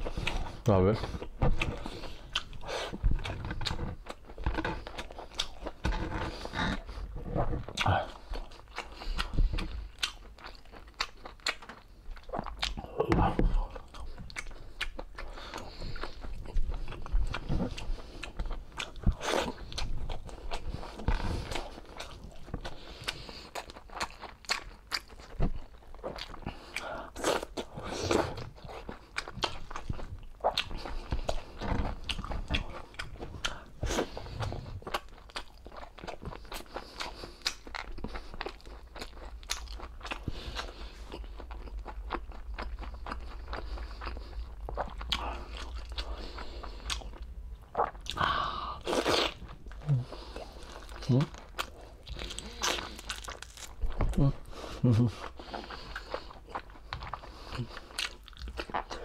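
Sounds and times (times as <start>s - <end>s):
person chewing with wet smacks: 0.0s - 48.2s, 48.8s - 59.0s.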